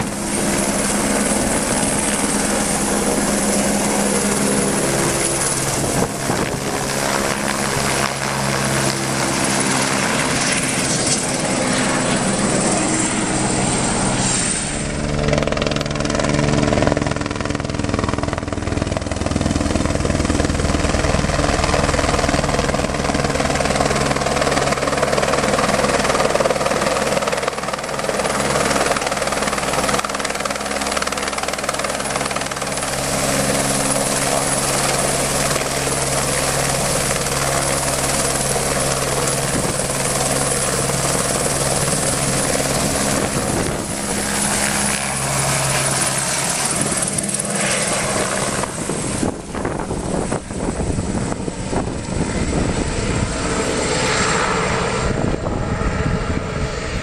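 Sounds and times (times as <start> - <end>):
helicopter rotor thrum: 0.0 - 57.0.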